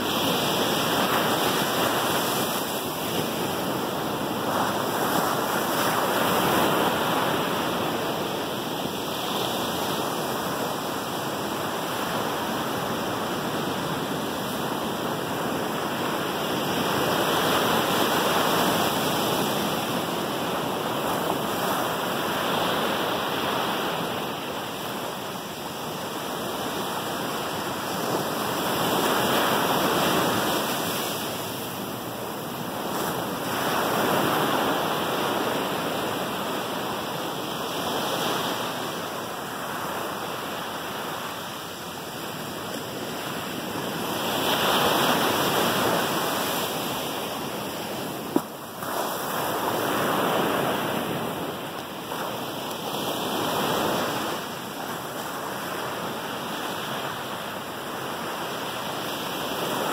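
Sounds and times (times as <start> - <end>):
ocean surf breaking on beach: 0.0 - 59.9.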